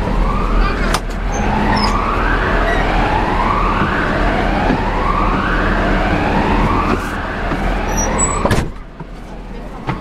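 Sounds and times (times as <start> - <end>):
siren wailing: 0.0 - 8.5
vehicle and road noise: 0.0 - 10.0.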